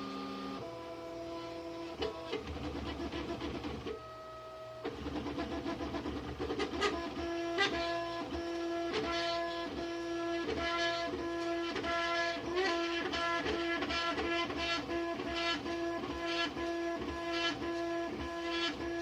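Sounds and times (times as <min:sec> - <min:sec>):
printer motors whining: 0:00.0 - 0:19.0.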